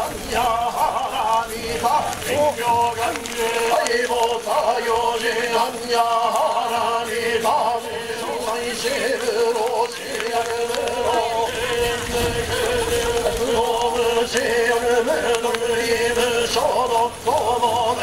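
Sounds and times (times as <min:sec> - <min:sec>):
group chanting in unison: 0:00.0 - 0:18.0.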